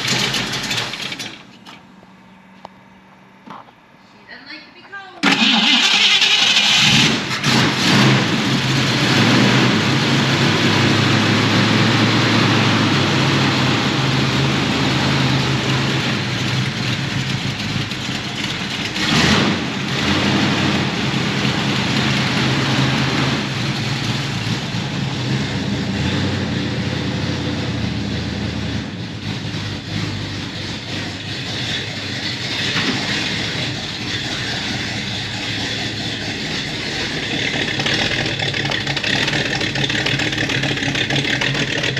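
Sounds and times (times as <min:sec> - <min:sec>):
car engine idling: 0:00.0 - 0:03.3, 0:05.2 - 0:41.9.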